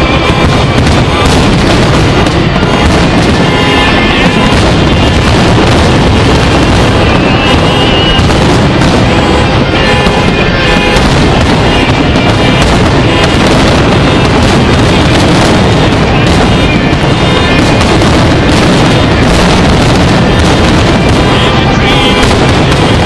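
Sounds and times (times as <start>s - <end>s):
fireworks booms and crackles: 0.0s - 23.0s.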